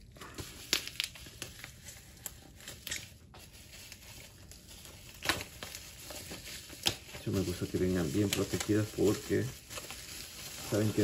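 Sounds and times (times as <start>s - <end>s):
packaging clicks and crinkling: 0.2s - 11.0s.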